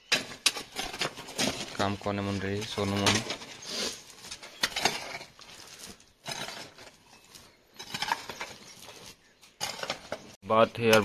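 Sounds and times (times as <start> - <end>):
mattock striking gravelly soil: 0.0 - 11.0.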